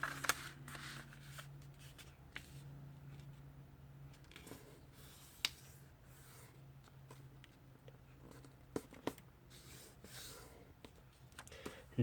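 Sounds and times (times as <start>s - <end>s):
paper rustling and creasing: 0.0s - 3.4s, 4.1s - 11.4s.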